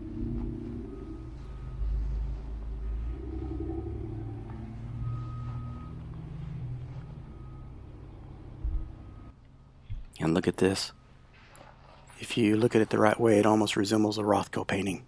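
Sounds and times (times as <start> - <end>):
vehicle engine rumbling: 0.0 - 13.6.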